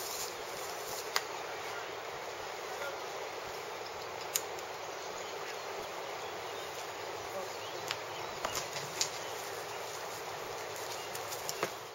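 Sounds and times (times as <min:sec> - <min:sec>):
outdoor background hiss: 0:00.0 - 0:11.9.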